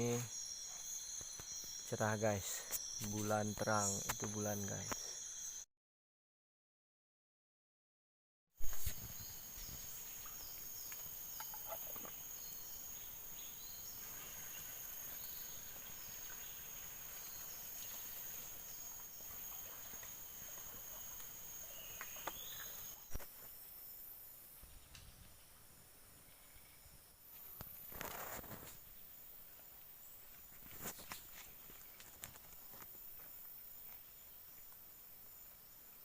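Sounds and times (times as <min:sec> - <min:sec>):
insect drone: 0:00.0 - 0:05.7, 0:08.6 - 0:36.0.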